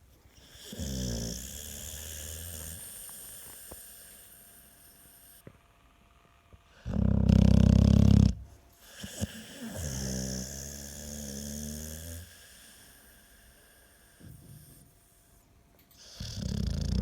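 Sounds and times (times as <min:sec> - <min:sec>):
dog snoring: 0:00.4 - 0:05.5, 0:06.7 - 0:15.1, 0:15.9 - 0:17.0.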